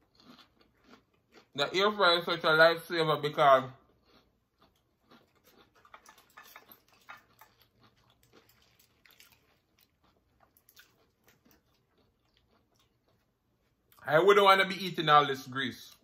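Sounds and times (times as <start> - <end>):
chewing crunchy food: 0.0 - 2.3, 3.3 - 14.1.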